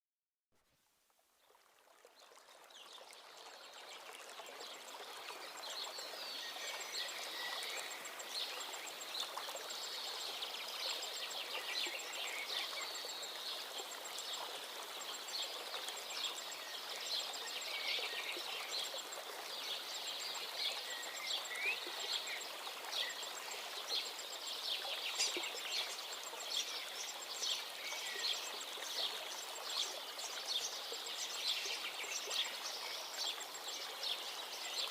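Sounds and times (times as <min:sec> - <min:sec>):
stream water running: 0:00.6 - 0:34.9.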